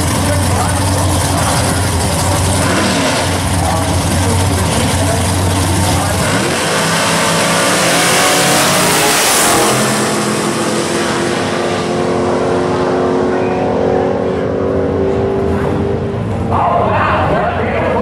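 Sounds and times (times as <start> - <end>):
drag race cars at full throttle: 0.0 - 18.0.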